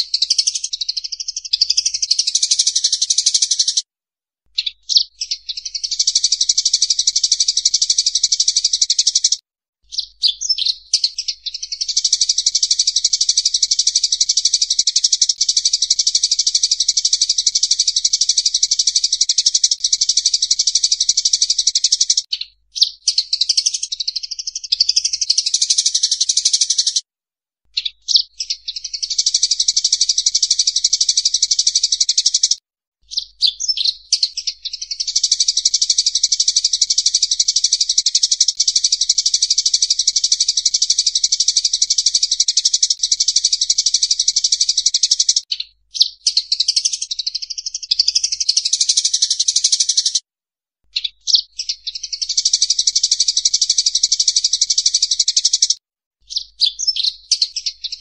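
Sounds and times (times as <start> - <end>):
sparrows chattering: 0.0 - 3.8, 4.5 - 27.0, 27.7 - 50.2, 50.9 - 58.0.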